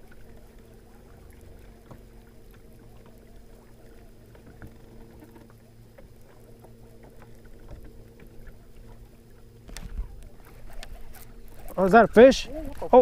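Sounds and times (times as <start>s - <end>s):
boat motor humming: 0.0s - 13.0s
small ticks and light patter: 0.0s - 13.0s.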